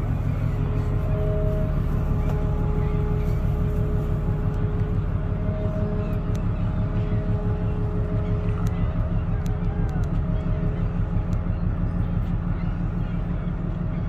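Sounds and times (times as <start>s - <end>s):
ship engine rumble: 0.0s - 14.0s.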